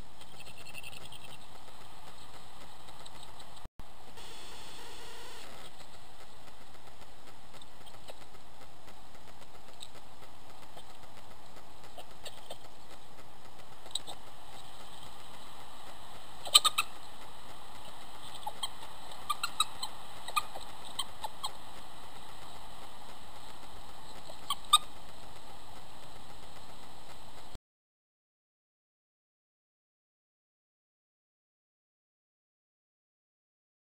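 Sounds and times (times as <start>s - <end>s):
microphone hiss: 0.0s - 27.6s.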